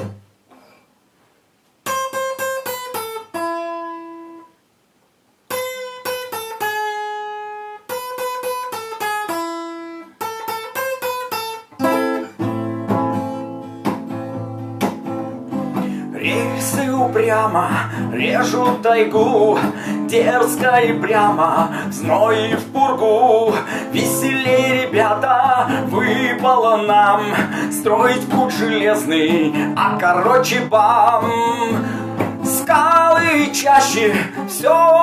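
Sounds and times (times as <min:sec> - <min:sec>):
acoustic guitar playing: 0:00.0 - 0:00.4, 0:01.8 - 0:04.6, 0:05.5 - 0:35.0.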